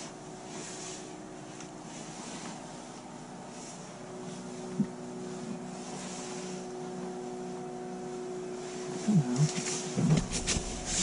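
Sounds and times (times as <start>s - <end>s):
distant machinery droning hum: 0.0s - 11.0s.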